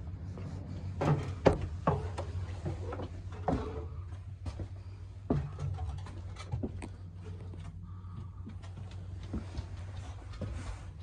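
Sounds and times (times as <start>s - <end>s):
steady low hum: 0.0s - 11.0s
footsteps on metal steps: 0.3s - 11.0s.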